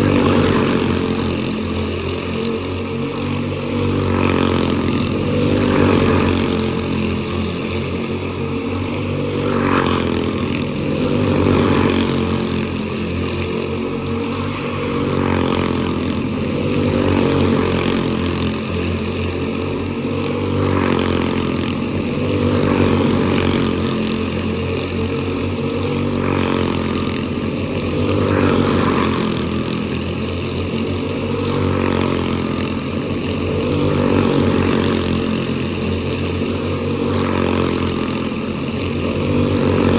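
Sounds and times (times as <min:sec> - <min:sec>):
small race car engines: 0:00.0 - 0:39.9.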